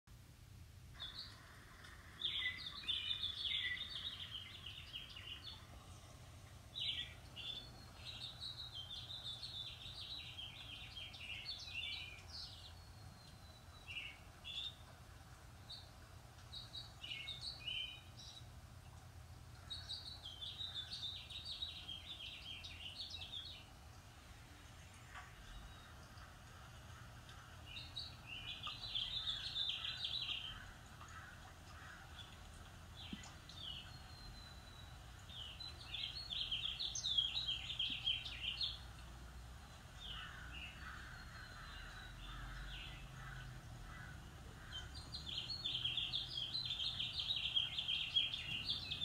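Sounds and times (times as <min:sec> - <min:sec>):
faint low hum: 0:00.1 - 0:49.0
small birds chirping: 0:00.9 - 0:49.0.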